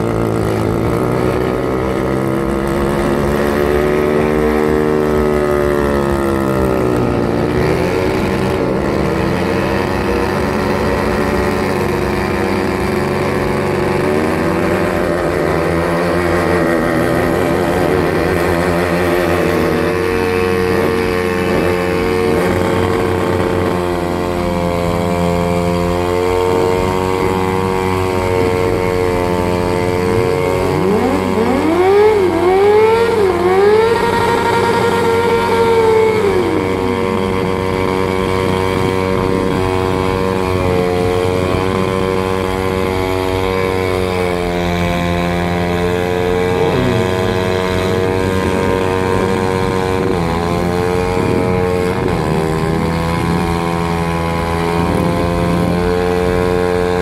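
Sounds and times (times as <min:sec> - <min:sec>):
motorcycle engines revving high: 0:00.0 - 0:57.0.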